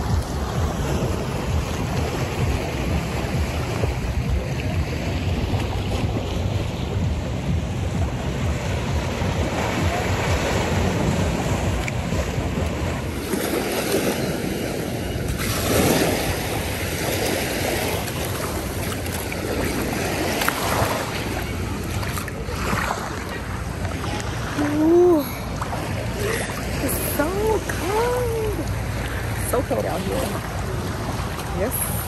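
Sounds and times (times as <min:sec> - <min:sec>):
sea water rushing: 0:00.0 - 0:32.0
wind buffeting microphone: 0:00.0 - 0:32.0.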